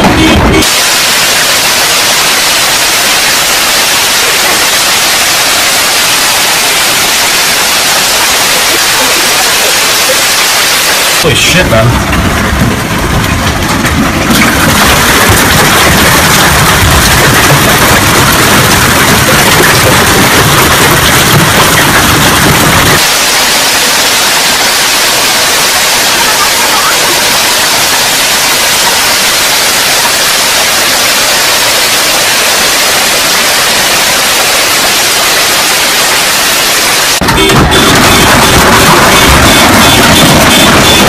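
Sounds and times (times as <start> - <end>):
hail pelting down: 0.6 - 41.0.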